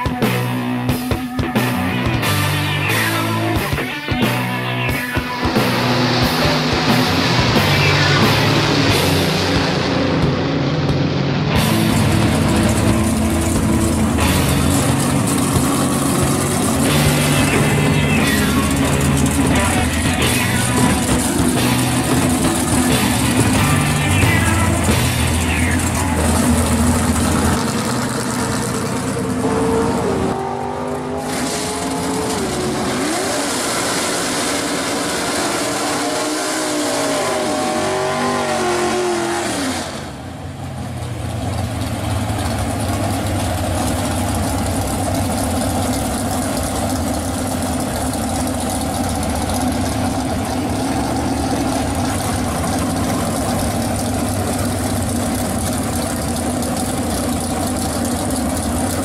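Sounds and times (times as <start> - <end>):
car engine revving: 0.0 - 59.0
car engine running: 0.0 - 59.0
car engines idling: 0.0 - 59.0.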